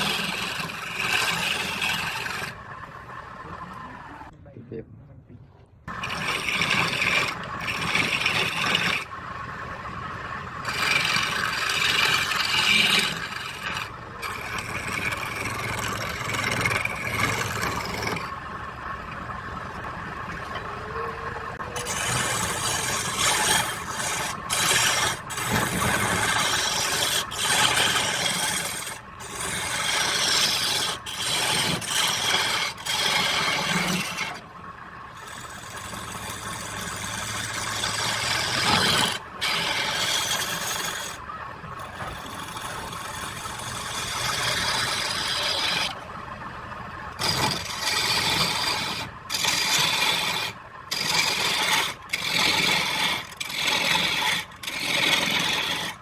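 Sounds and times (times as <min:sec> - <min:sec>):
hand tool scraping wood: 0:00.0 - 0:03.6, 0:05.9 - 0:09.2, 0:10.6 - 0:18.4, 0:19.1 - 0:34.4, 0:35.2 - 0:41.2, 0:41.8 - 0:46.1, 0:47.2 - 0:56.0.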